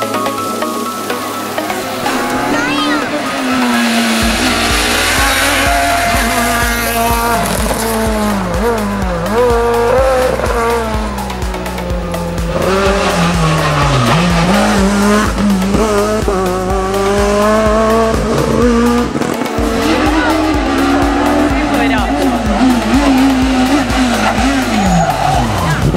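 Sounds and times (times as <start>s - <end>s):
music with steady beat: 0.0s - 25.9s
rally car engine revving: 0.0s - 25.9s.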